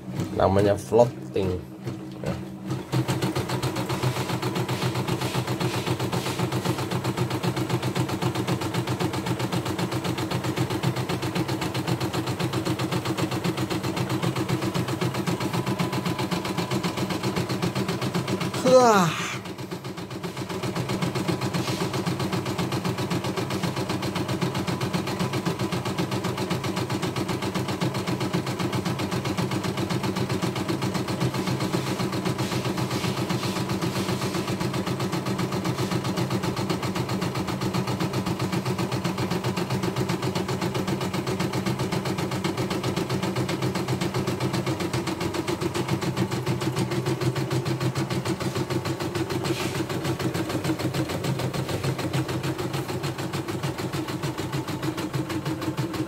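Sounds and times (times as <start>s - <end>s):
embroidery machine stitching: 0.1s - 18.9s, 19.5s - 56.0s.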